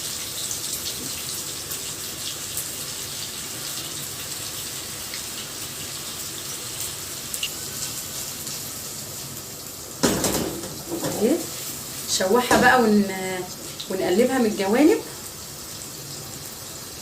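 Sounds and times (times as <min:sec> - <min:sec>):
meatballs sizzling in a pan: 0:00.0 - 0:17.0.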